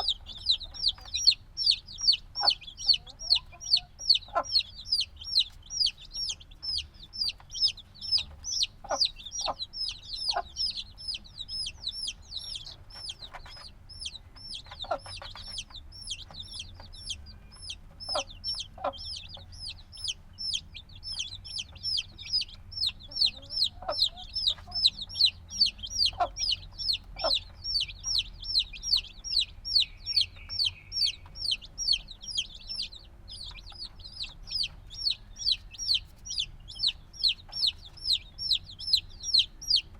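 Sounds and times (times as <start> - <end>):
chicks peeping: 0.0 - 39.9
short lower chick calls: 0.0 - 39.9.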